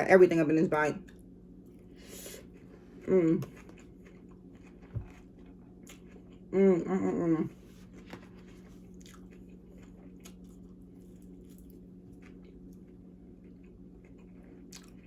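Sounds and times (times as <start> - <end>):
person chewing salad: 1.0 - 15.0.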